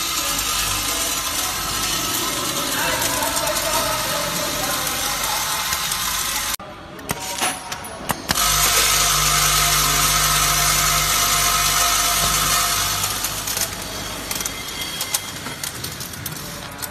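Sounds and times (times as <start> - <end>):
packing machine humming: 0.0 - 6.6, 8.3 - 16.9.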